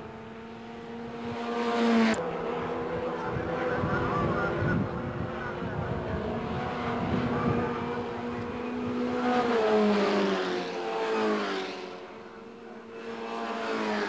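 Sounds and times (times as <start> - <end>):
racing car engines passing: 0.0 - 14.0.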